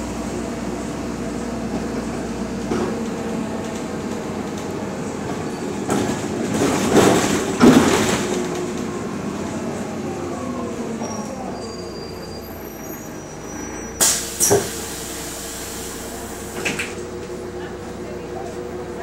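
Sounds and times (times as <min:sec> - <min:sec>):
bus engine droning: 0:00.0 - 0:19.0
road rumble: 0:00.0 - 0:19.0.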